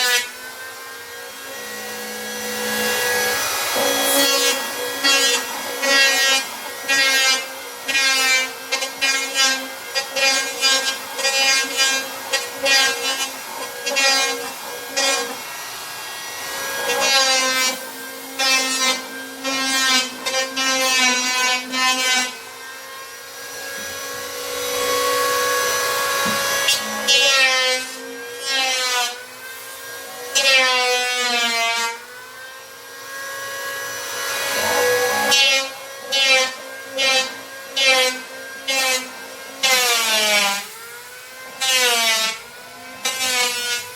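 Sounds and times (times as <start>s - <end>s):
saw cutting plywood: 0.0s - 43.9s.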